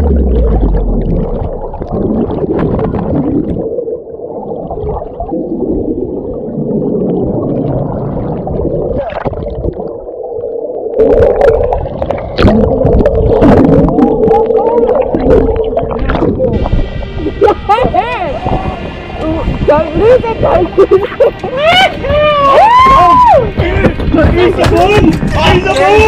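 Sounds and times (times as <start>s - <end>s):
steady hum: 0.0s - 26.0s
underwater bubbles and rushing water: 0.0s - 26.0s
water splashing: 0.0s - 26.0s.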